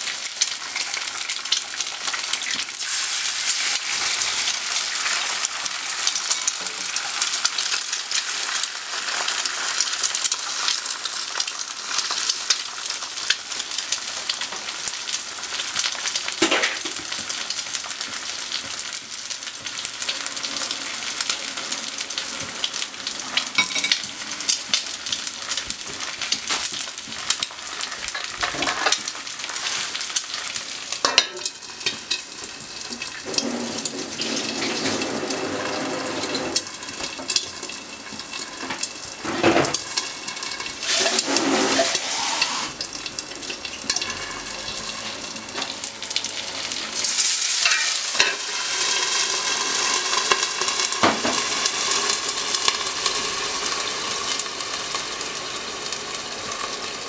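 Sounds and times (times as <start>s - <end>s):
sausages and eggs sizzling: 0.0s - 57.0s.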